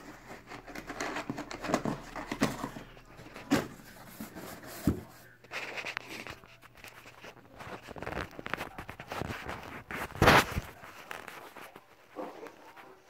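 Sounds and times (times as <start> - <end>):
cardboard rustling and scraping: 0.0 - 13.0.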